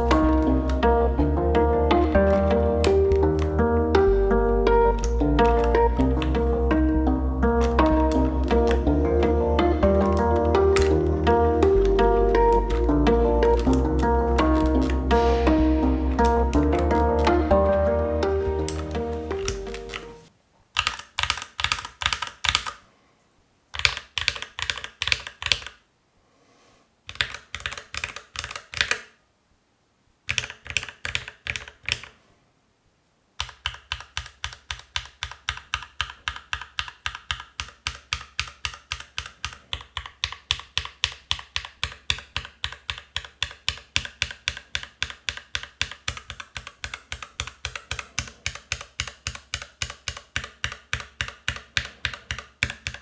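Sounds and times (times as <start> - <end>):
typing on mechanical keyboard: 1.9 - 20.2, 20.8 - 22.8, 23.8 - 25.8, 27.1 - 29.2, 30.3 - 32.2, 33.4 - 53.0.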